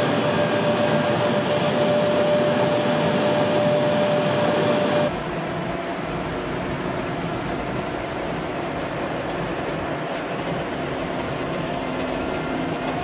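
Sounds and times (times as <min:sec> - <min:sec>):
industrial machinery humming: 0:00.0 - 0:13.0.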